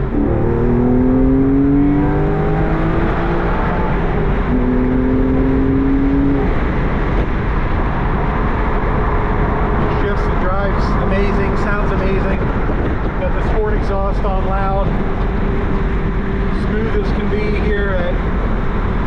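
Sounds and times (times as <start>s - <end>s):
road noise rumble: 0.0s - 19.0s
sports car engine accelerating: 0.0s - 19.0s.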